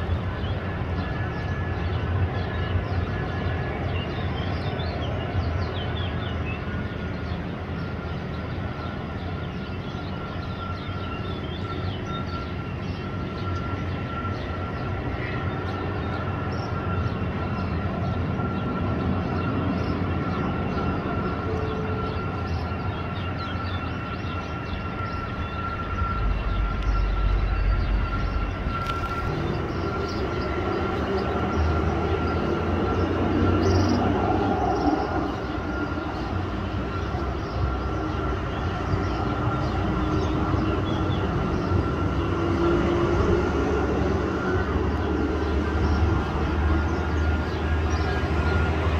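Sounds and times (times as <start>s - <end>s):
jet engines high whine and rumble: 0.0s - 48.9s.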